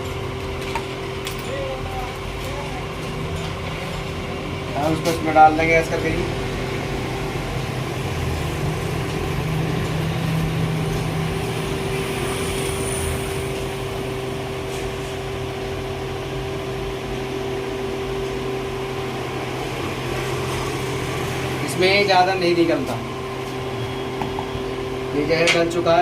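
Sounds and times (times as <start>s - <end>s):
street noise: 0.0s - 26.0s.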